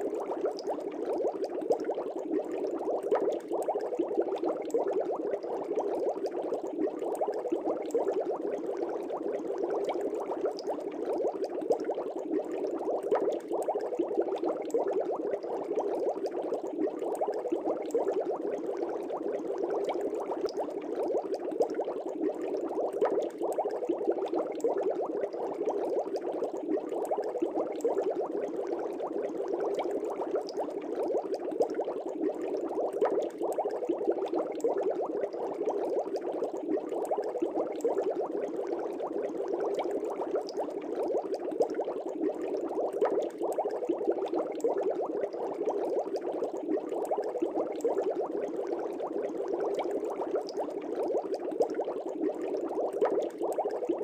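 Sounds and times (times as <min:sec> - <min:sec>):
aquarium air bubbling: 0:00.0 - 0:54.0.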